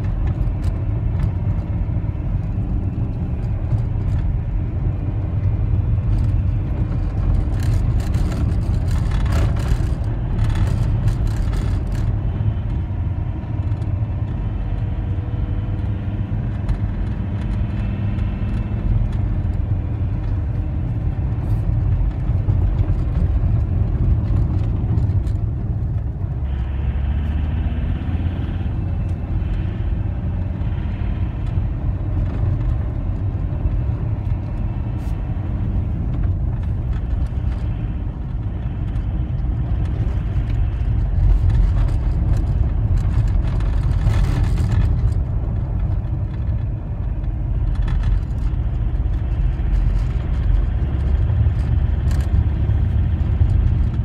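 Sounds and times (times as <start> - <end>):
car engine and tyres on snow: 0.0 - 54.0.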